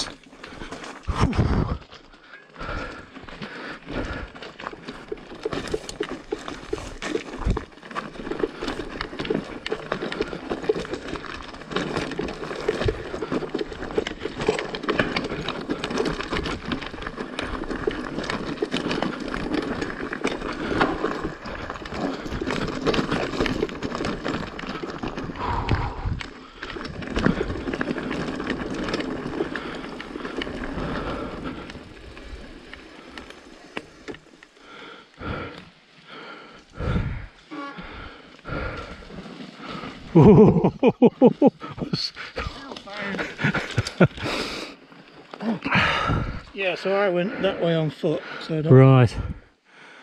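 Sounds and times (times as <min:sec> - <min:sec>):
bike rattling: 0:00.0 - 0:50.0
bike tyres rolling over stones: 0:00.0 - 0:50.0.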